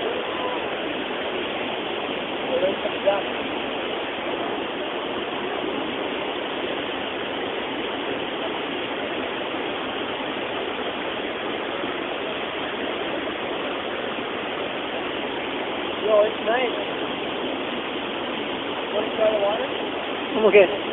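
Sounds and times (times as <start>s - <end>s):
water rushing over rocks: 0.0s - 20.9s.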